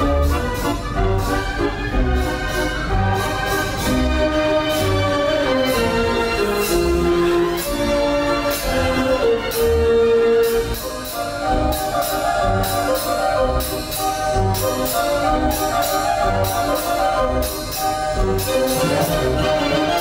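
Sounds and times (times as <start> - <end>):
orchestral music with steady beat: 0.0 - 20.0.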